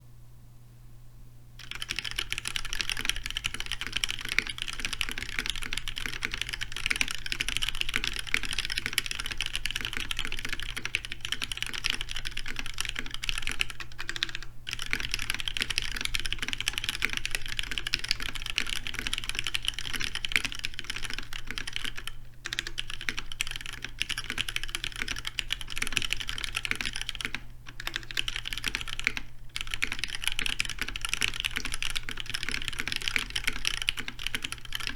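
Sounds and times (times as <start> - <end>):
fast typing on mechanical keyboard: 1.6 - 34.9.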